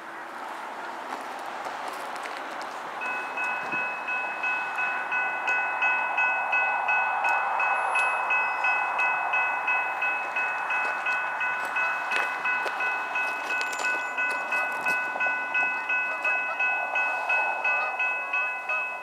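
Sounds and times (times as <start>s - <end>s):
light wind: 0.0s - 19.0s
level crossing bell ringing: 3.0s - 19.0s.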